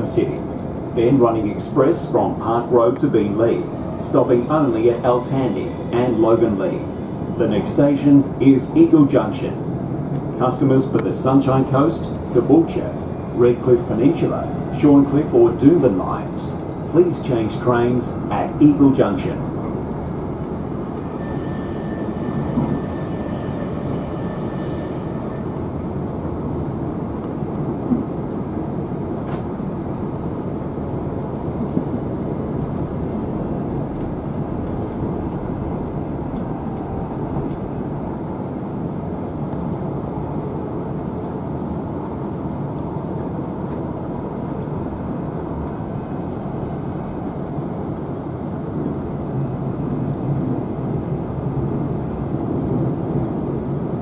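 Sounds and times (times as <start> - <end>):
train wheels rumbling: 0.0 - 54.0.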